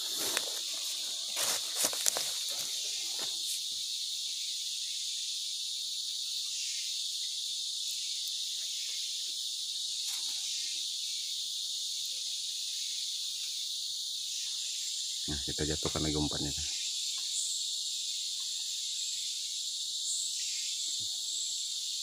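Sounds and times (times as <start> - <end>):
insects chorus shrill drone: 0.0 - 22.0.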